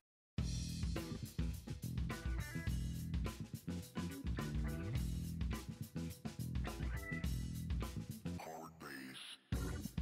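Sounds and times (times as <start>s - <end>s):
band music with drum beat: 0.4s - 8.4s, 9.5s - 10.0s.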